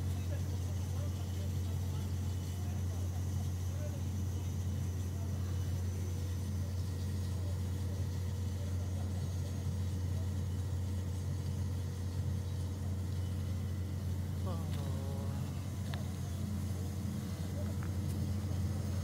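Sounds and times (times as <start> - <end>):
diesel generator droning: 0.0 - 19.0.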